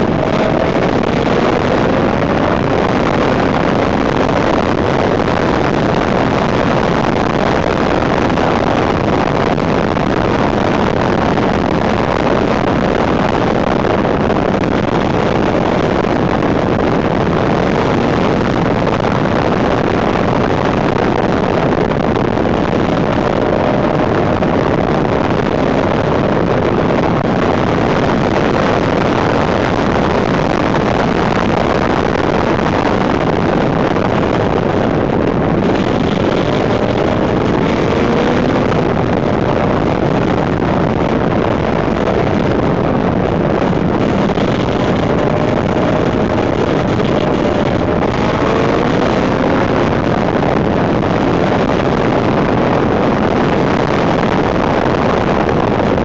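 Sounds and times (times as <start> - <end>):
motorcycle engine at road speed: 0.0 - 56.0
wind buffeting microphone: 0.0 - 56.0.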